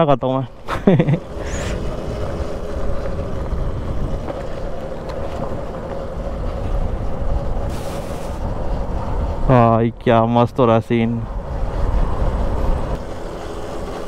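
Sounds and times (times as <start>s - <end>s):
road and wind rumble: 0.0s - 14.0s.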